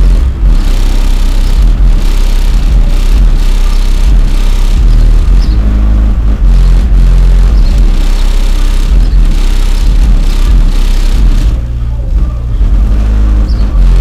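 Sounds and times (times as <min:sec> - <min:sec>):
car deep rumbling: 0:00.0 - 0:14.0.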